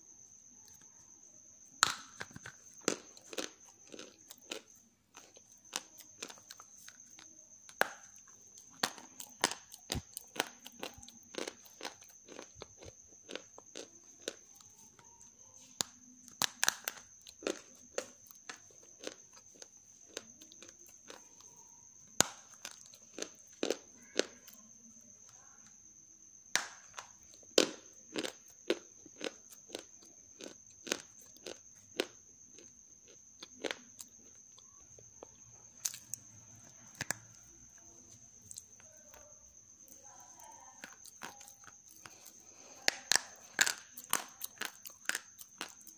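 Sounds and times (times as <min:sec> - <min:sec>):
clay crunching when chewed: 0:01.8 - 0:24.7, 0:26.9 - 0:45.9.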